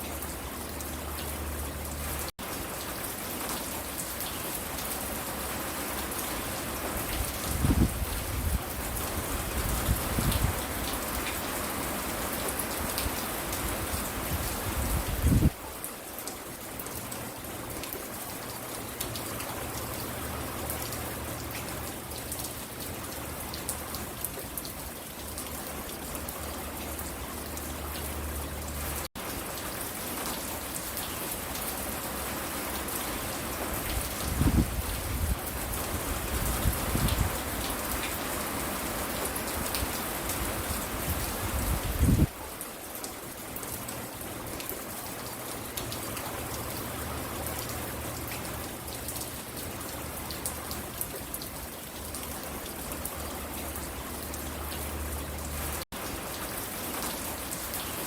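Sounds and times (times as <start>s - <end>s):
rain falling on a porch: 0.0s - 58.0s.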